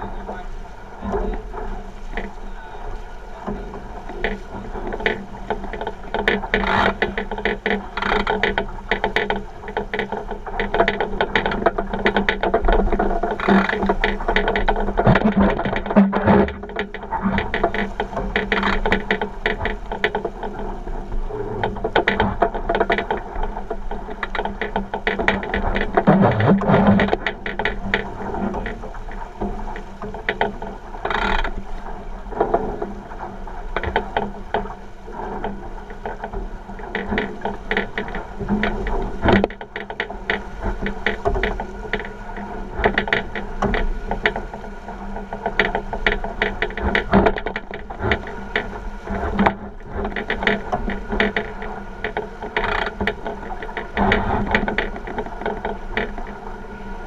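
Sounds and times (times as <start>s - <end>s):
hull and fittings rattling: 0.0s - 56.6s
rush of water: 0.0s - 57.0s
wind: 0.0s - 57.0s.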